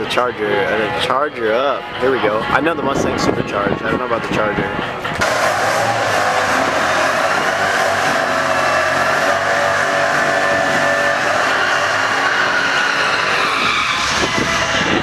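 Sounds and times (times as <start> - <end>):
drag racing car engines: 0.0 - 15.0.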